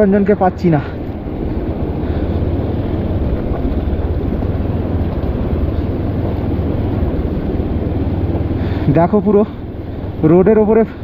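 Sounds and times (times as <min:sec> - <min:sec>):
motorcycle engine running: 0:00.0 - 0:11.0
steady rushing noise: 0:00.0 - 0:11.0.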